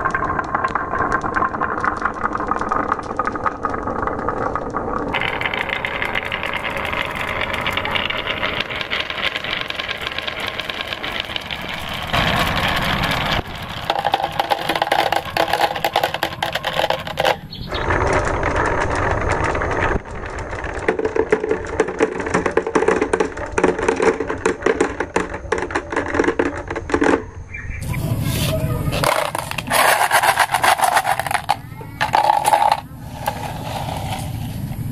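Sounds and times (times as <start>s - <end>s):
marbles clattering on wooden tracks: 0.0s - 27.5s, 28.9s - 34.9s.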